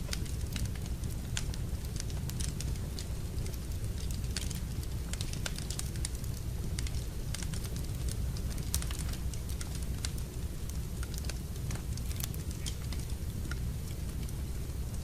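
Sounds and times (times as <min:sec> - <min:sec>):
fire crackling and snapping: 0:00.0 - 0:15.0
low rumble of flames: 0:00.0 - 0:15.0.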